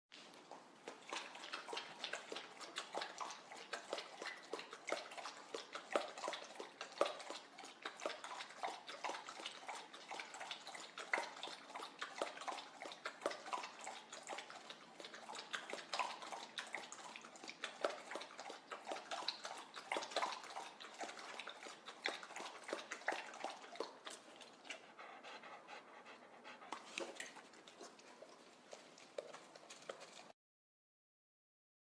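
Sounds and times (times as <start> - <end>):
dog lapping water: 0.1 - 30.4.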